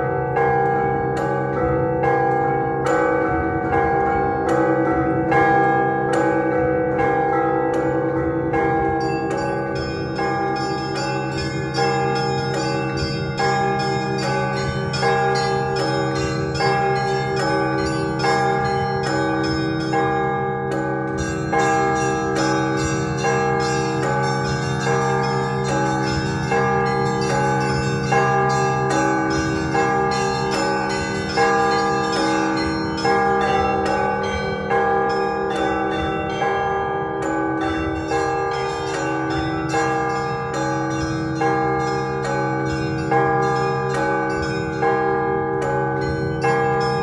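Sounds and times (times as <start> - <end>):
church bells pealing: 0.0 - 47.0.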